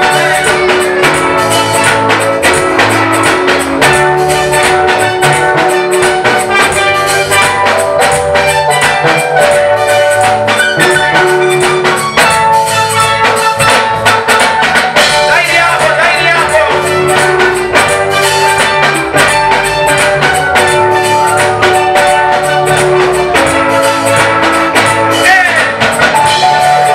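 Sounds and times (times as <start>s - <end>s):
church band worship music: 0.0s - 26.9s
drums and percussion: 0.0s - 26.9s.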